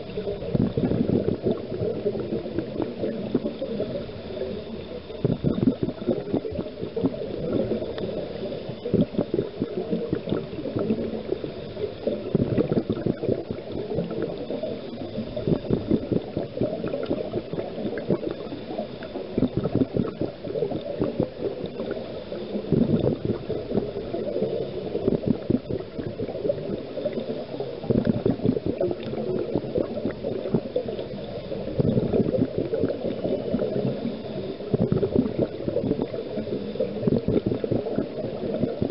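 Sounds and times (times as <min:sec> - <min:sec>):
underwater bubbles gurgling: 0:00.0 - 0:38.9.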